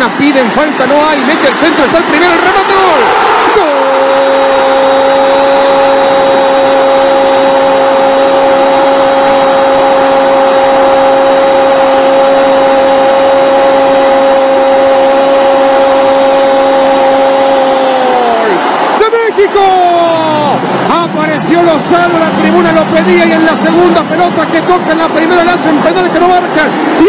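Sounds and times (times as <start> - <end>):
stadium crowd cheering: 0.0 - 27.0.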